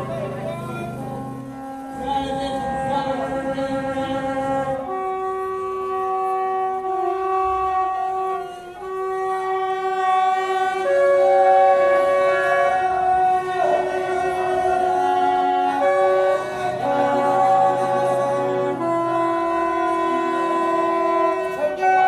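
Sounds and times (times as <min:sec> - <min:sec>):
single-reed wind instrument: 0:00.0 - 0:22.0
viola holding long notes: 0:00.0 - 0:22.0.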